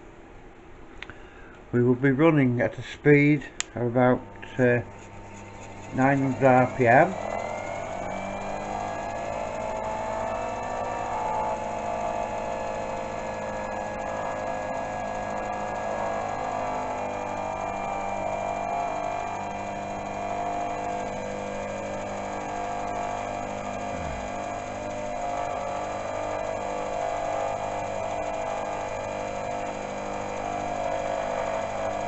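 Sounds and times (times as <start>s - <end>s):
milling machine cutting steel: 4.1s - 32.0s.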